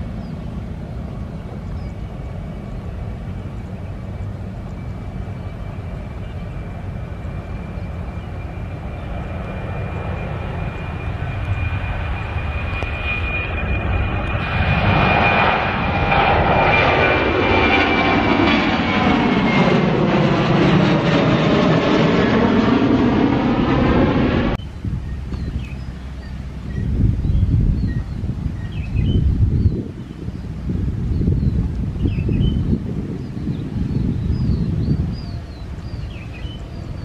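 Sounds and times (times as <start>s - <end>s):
jet engines rumble and whine: 0.0s - 37.0s.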